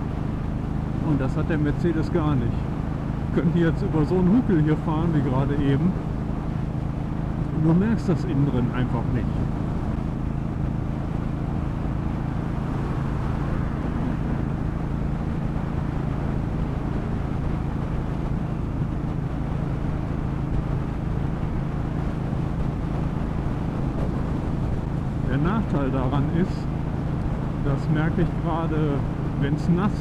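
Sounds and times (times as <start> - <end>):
car engine hum: 0.0 - 30.0
tyre and road noise: 0.0 - 30.0.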